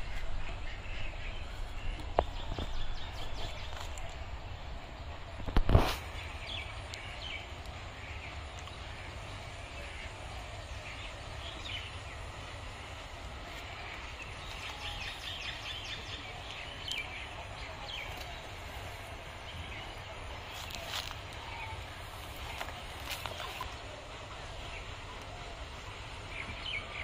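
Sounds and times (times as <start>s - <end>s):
faint bird calls: 4.9s - 27.0s.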